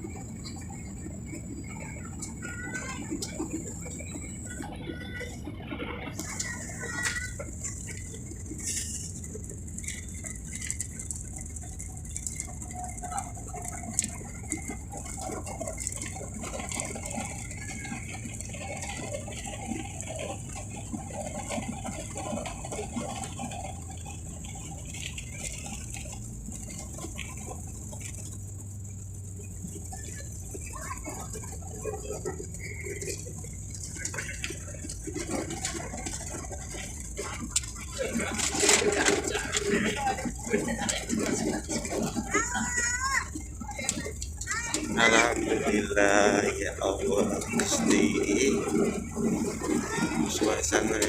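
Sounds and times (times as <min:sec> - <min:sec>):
low rumble of engines and airflow: 0:00.0 - 0:51.0.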